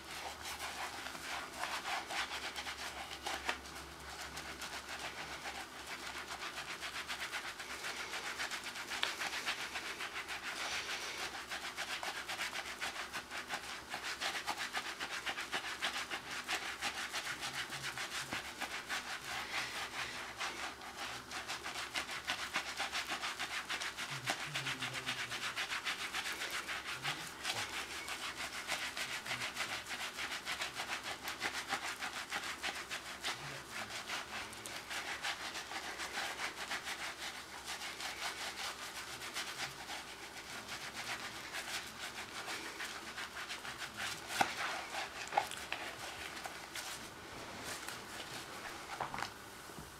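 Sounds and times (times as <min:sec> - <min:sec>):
hands being scrubbed: 0:00.0 - 0:49.4.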